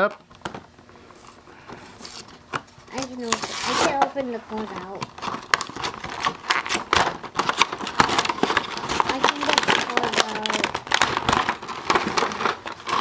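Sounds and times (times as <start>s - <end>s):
plastic blister pack being torn open: 2.0s - 4.0s, 4.6s - 13.0s.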